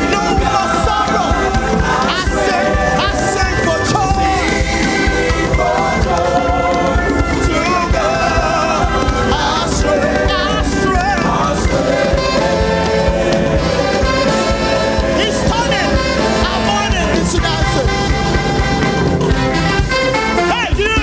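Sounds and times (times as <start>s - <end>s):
choir singing: 0.0s - 20.8s
band playing steady beat: 0.0s - 21.0s.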